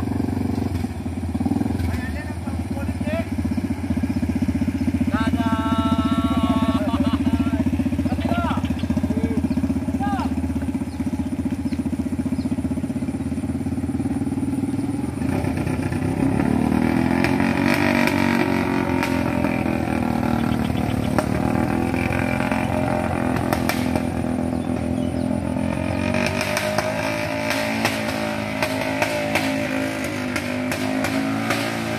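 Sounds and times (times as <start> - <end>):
motorcycle engine under load: 0.0 - 31.9
scooter passing: 0.0 - 31.9.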